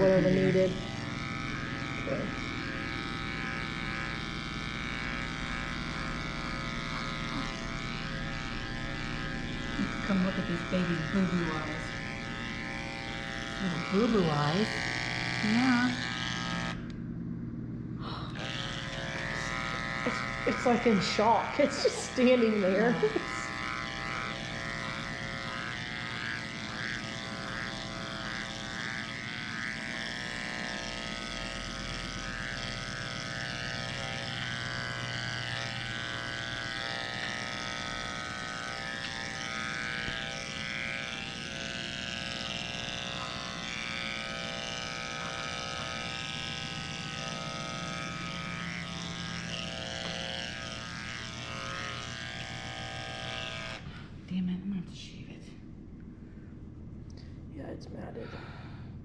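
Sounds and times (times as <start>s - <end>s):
electric clippers buzzing: 0.0s - 56.2s.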